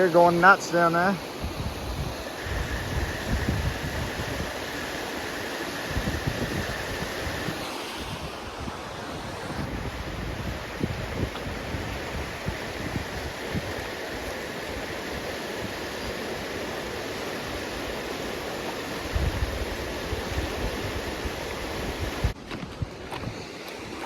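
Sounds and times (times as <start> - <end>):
creek water rushing: 0.0 - 22.4, 23.2 - 24.0
wind buffeting microphone: 1.2 - 16.5, 18.9 - 24.0.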